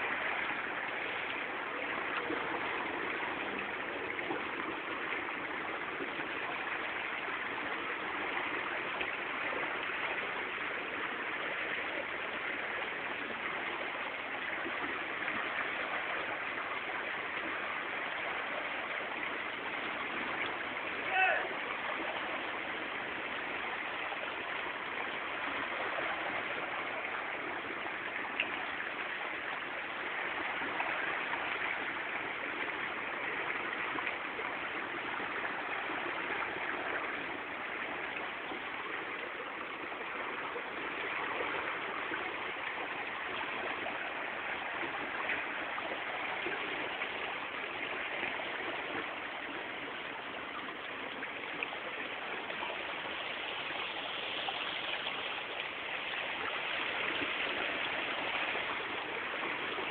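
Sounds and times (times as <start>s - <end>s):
churning flowing water: 0.0s - 59.9s.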